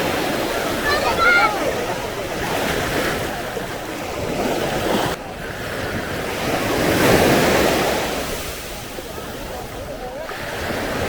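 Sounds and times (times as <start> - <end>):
sea waves on shore: 0.0 - 11.0.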